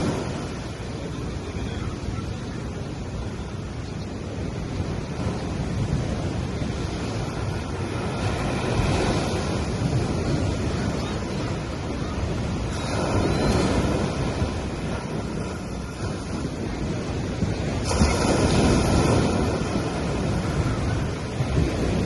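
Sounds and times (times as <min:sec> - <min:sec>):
waves washing on sandy beach: 0:00.0 - 0:22.0.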